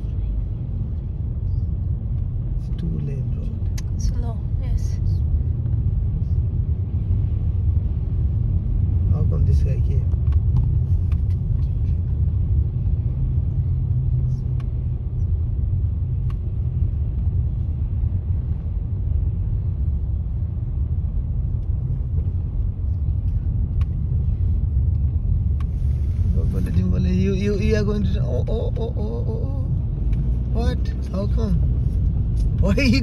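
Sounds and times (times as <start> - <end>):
car cabin road and engine rumble: 0.0 - 33.0.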